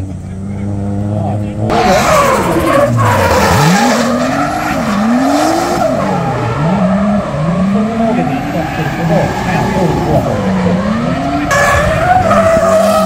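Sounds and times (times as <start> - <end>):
car engine revving: 0.0 - 13.0
tyres squealing on asphalt: 1.6 - 13.0.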